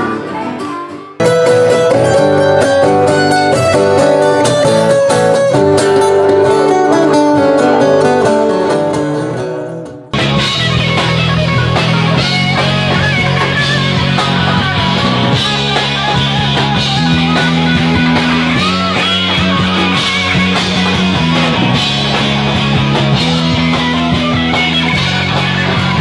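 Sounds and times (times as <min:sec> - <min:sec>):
acoustic guitars strumming: 0:00.0 - 0:26.0
rock band playing: 0:00.0 - 0:26.0.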